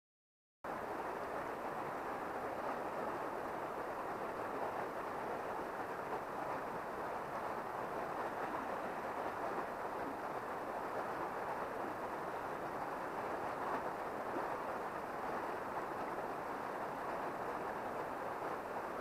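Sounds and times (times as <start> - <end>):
stream rushing over stones: 0.7 - 19.0.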